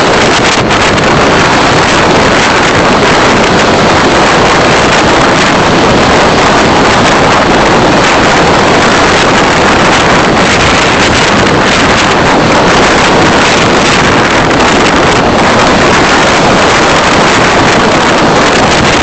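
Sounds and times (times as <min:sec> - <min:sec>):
car road noise: 0:00.0 - 0:19.0
wind rushing: 0:00.0 - 0:19.0.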